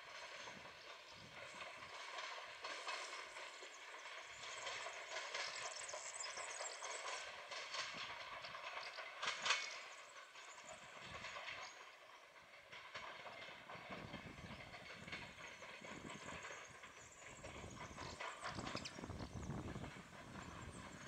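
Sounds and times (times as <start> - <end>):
train wheels clattering on track: 0.0 - 21.0.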